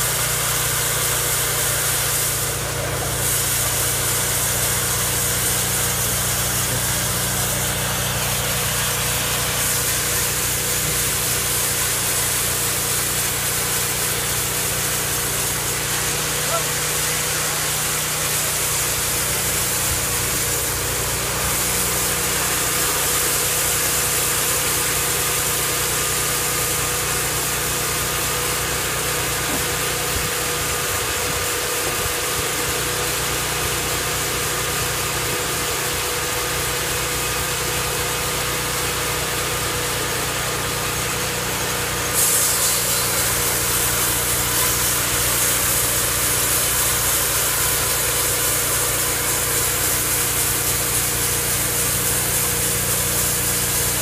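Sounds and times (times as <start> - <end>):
saw hissing: 0.0 - 54.0
sawmill engine droning: 0.0 - 54.0.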